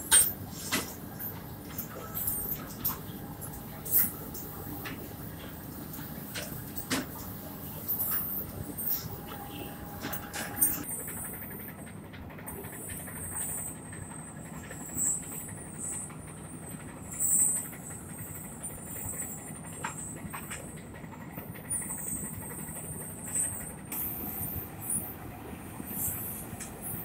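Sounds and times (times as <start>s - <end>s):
belt conveyor rumbling and whining: 0.0s - 27.0s.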